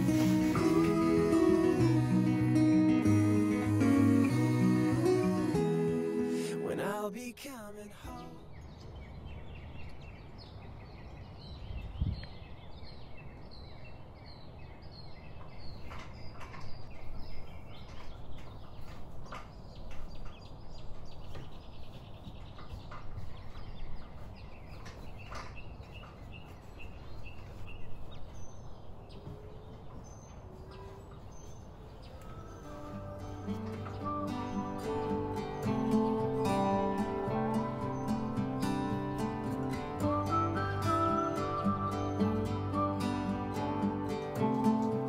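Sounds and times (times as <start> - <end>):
small birds chirping: 7.4 - 45.0.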